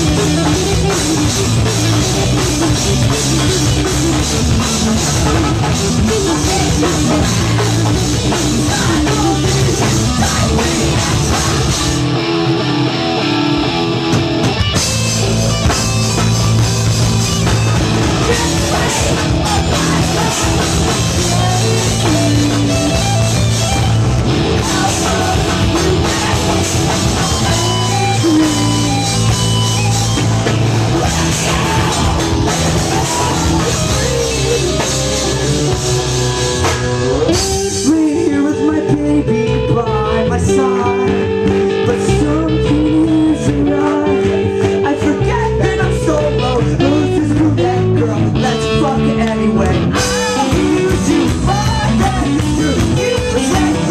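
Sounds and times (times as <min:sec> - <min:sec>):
bass guitar: 0:00.0 - 0:53.9
drum kit: 0:00.0 - 0:53.9
electric guitars: 0:00.0 - 0:53.9.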